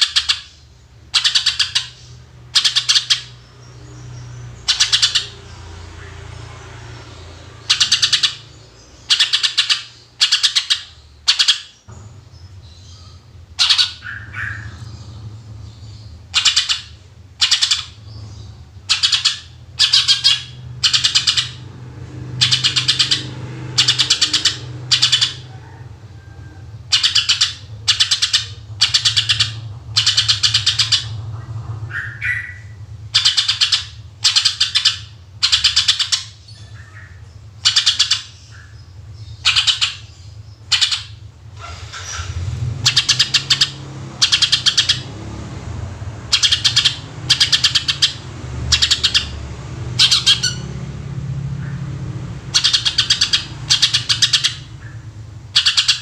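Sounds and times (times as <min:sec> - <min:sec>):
bird singing chattering notes: 0:00.0 - 0:25.8, 0:26.8 - 0:41.4, 0:42.0 - 0:56.0.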